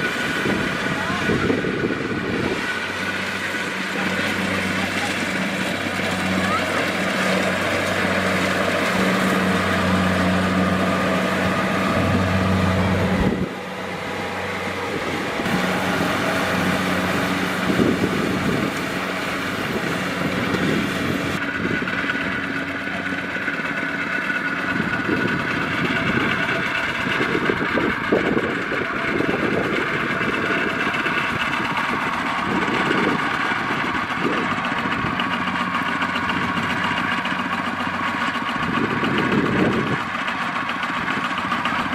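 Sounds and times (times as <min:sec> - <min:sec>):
combine harvester engine hum: 0:00.0 - 0:41.9.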